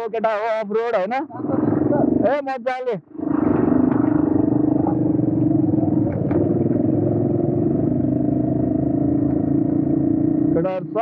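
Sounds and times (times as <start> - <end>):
motorcycle engine running: 1.2 - 11.0.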